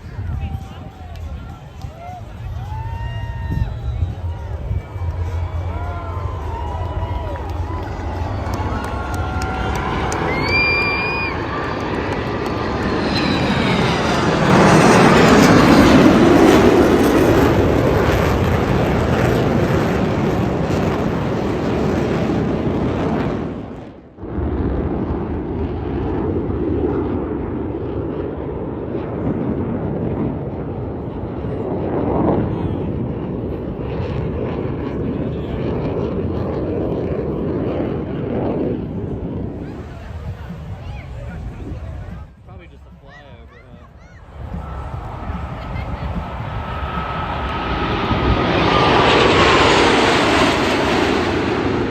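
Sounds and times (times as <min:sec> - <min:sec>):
jet engines roaring overhead: 0:00.0 - 0:51.9.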